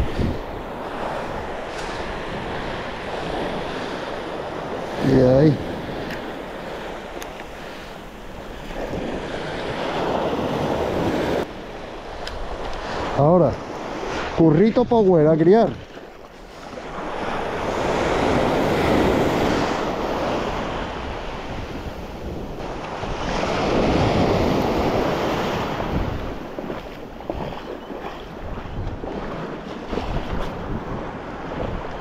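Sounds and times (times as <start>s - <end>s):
sea waves breaking on beach: 0.0s - 32.0s
wind buffeting microphone: 0.0s - 32.0s.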